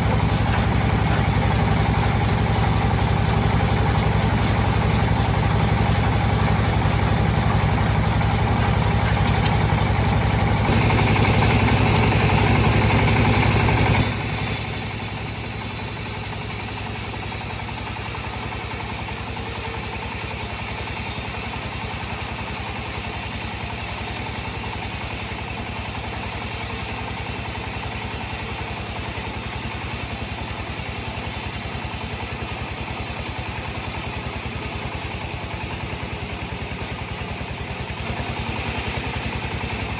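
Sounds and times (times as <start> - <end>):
bandsaw machinery running: 0.0 - 39.9.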